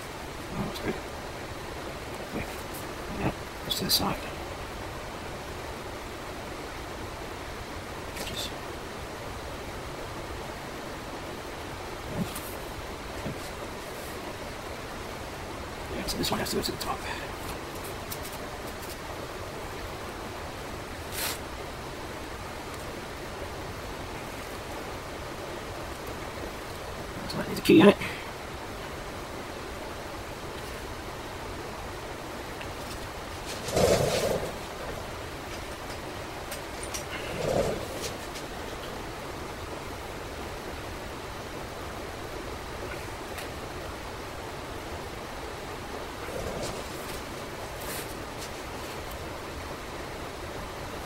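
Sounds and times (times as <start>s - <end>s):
steady background hiss: 0.0s - 51.0s.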